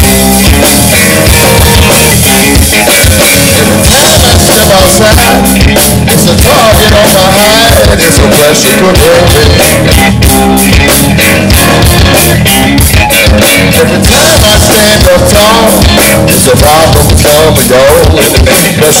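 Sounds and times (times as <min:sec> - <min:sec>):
blues-rock band playing: 0:00.0 - 0:19.0
steady drum beat: 0:00.0 - 0:19.0
wavering electric guitar lead: 0:00.0 - 0:19.0.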